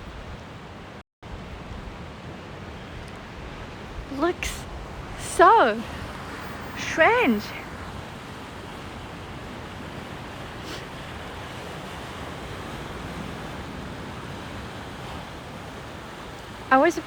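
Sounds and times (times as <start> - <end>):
sea surf washing on shore: 0.1 - 17.0.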